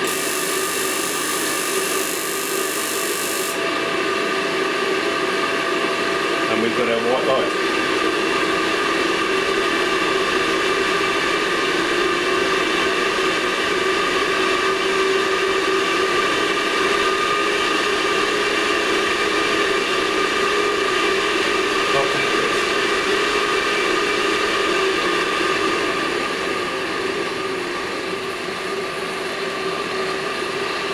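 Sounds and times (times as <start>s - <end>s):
boiler fan whirring hum: 0.0s - 30.9s.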